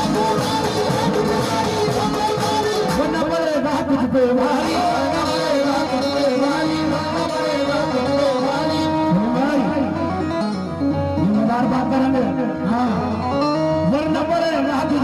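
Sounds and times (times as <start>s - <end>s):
qawwali music on harmonium and drums: 0.0s - 15.0s.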